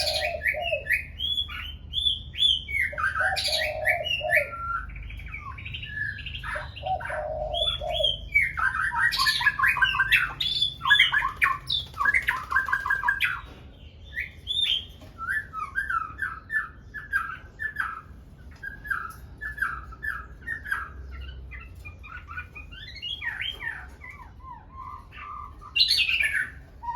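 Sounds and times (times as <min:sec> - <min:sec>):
birds warbling and chirping: 0:00.0 - 0:26.9.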